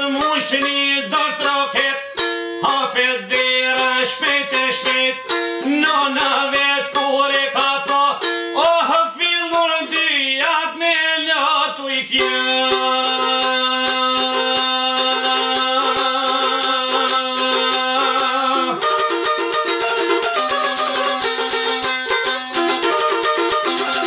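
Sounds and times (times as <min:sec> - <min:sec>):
fast picking on lute strings: 0:00.0 - 0:10.8, 0:12.2 - 0:24.0
man singing: 0:00.0 - 0:21.5.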